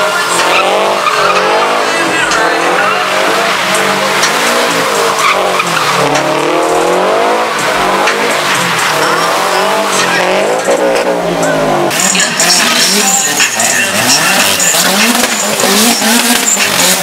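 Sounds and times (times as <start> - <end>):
car engine revving hard: 0.0 - 17.0
tires squealing: 0.0 - 17.0.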